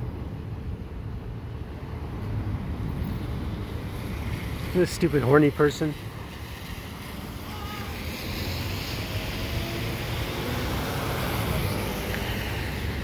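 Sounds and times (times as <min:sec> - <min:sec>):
traffic on wet street: 0:00.0 - 0:13.0.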